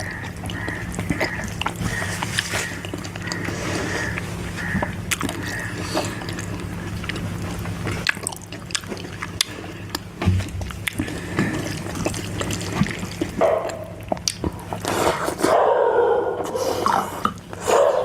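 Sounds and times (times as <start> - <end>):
wet chewing and lip-smacking: 0.0 - 15.6
steady low hum: 0.0 - 18.0.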